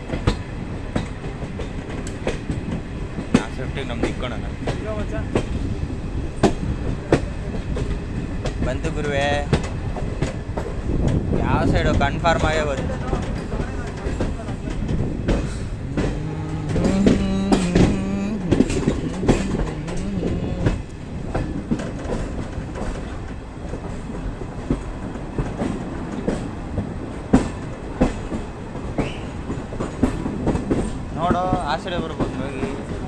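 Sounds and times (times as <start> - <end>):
train passing rumble: 0.0 - 33.0
wheels clacking over rail joints: 0.0 - 33.0.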